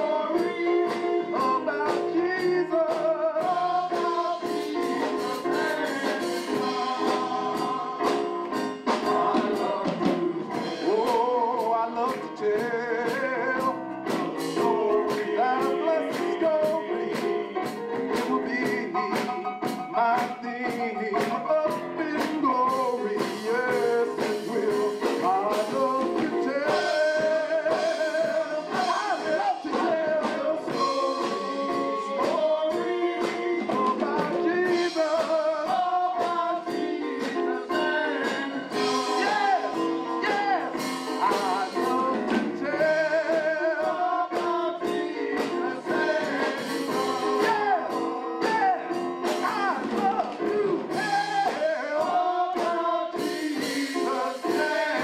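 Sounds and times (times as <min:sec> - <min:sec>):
drum kit beat: 0:00.0 - 0:55.0
live band playing: 0:00.0 - 0:55.0
male vocal group singing: 0:00.0 - 0:55.0.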